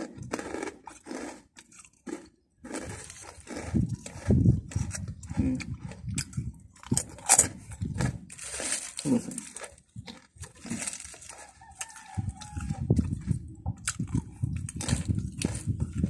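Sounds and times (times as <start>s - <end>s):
chewing crunchy snack: 0.0s - 16.0s.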